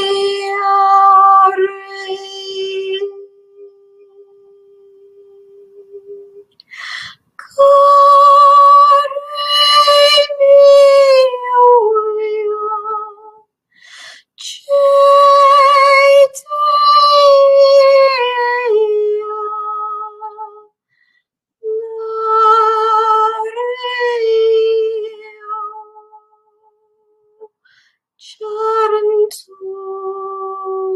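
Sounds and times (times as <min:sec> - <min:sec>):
woman singing wordless high notes: 0:00.0 - 0:13.4, 0:14.4 - 0:20.7, 0:21.6 - 0:26.4, 0:28.2 - 0:30.9.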